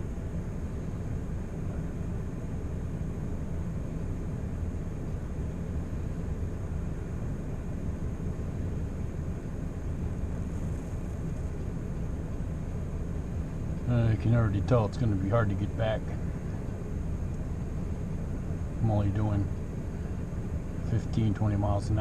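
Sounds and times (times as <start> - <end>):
car cabin rumble: 0.0 - 22.0.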